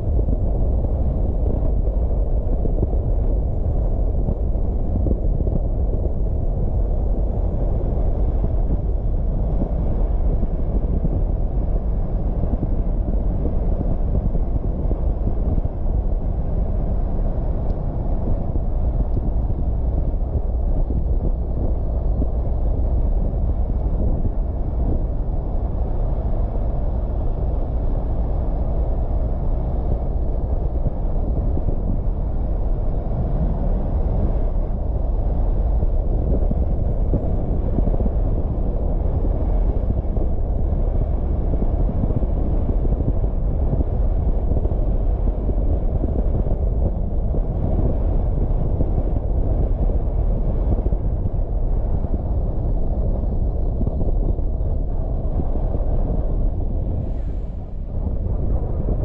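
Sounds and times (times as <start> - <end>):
car engine and road noise: 0.0 - 58.9.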